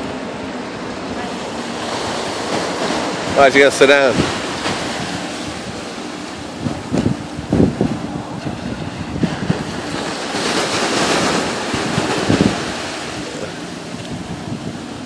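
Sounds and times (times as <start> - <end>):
small waves breaking on sand: 1.1 - 15.0
wind buffeting microphone: 1.7 - 15.0.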